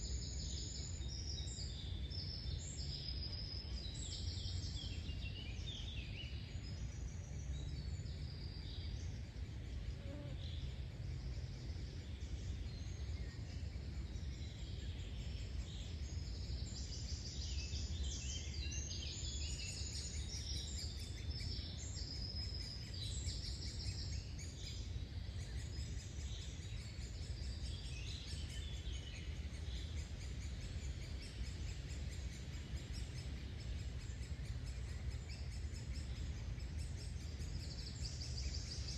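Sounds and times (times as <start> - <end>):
small birds singing: 0.0 - 38.9.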